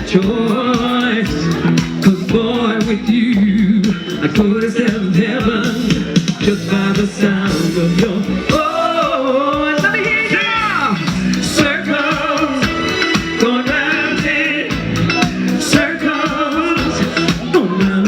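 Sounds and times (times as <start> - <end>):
live soul band: 0.0 - 18.0
person singing: 0.0 - 18.0.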